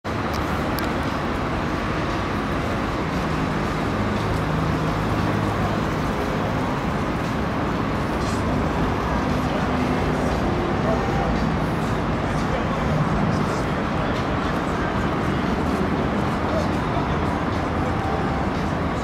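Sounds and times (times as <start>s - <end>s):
traffic-like noise: 0.0s - 19.0s
engine running: 0.1s - 19.0s.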